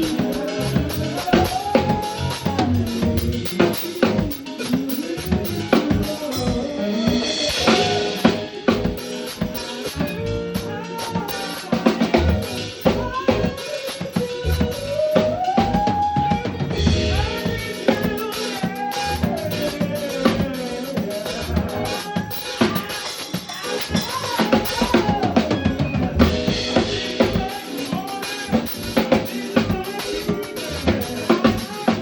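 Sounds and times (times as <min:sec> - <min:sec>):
sliding melodic lead line: 0:00.0 - 0:13.7, 0:16.2 - 0:23.0, 0:23.6 - 0:32.0
drum kit beat: 0:00.0 - 0:32.0.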